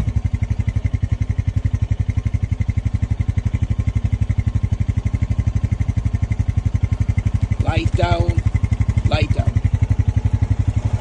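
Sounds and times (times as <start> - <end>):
quad bike engine chugging: 0.0 - 11.0.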